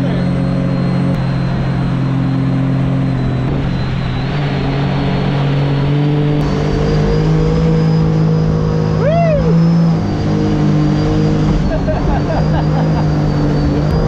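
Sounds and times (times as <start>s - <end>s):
jet boat engine drone: 0.0s - 14.0s
wind: 0.0s - 14.0s.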